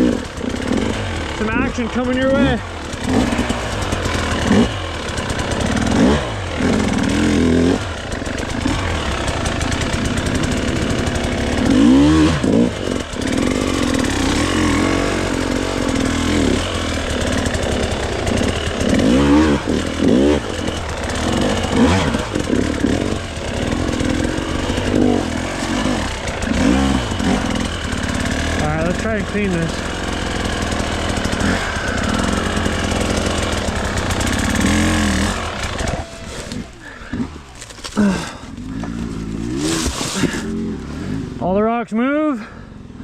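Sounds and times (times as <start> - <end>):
dirt bike engine revving: 0.0 - 41.8.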